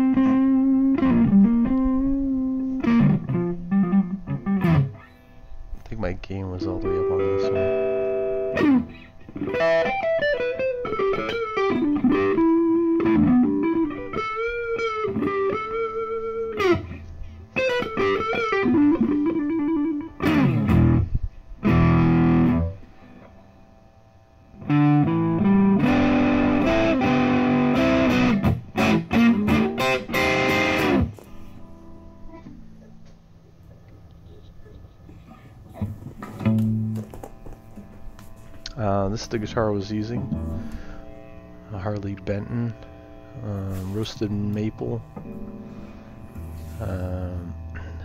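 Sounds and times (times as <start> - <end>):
distorted electric guitar: 0.0 - 48.0.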